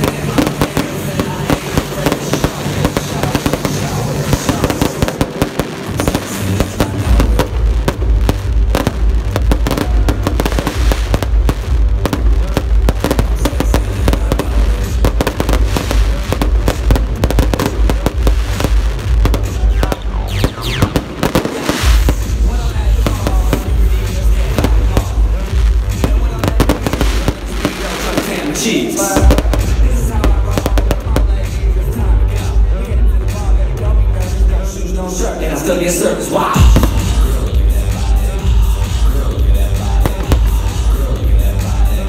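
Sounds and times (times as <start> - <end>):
fireworks crackling and booming: 0.0 - 35.0, 36.2 - 42.0
music playing: 0.0 - 42.0.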